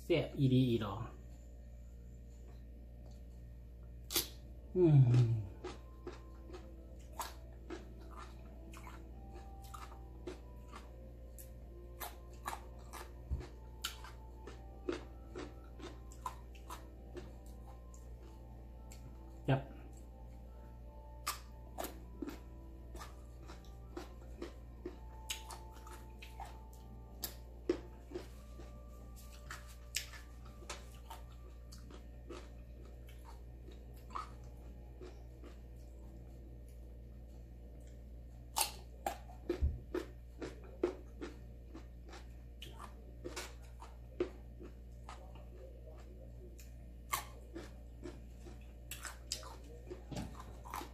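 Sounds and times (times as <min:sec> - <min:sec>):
steady low hum: 0:00.0 - 0:50.9
crunchy fruit being chewed: 0:04.0 - 0:20.5, 0:21.1 - 0:50.9.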